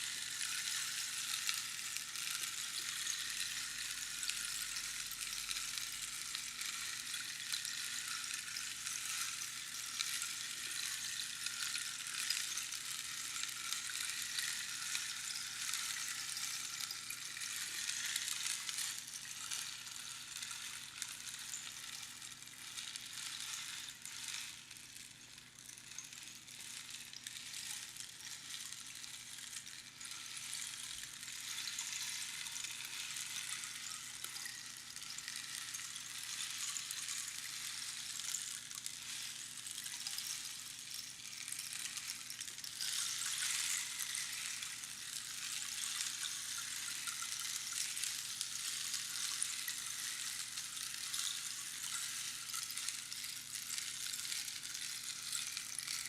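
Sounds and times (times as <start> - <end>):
rainstick pebbles trickling: 0.0 - 56.0.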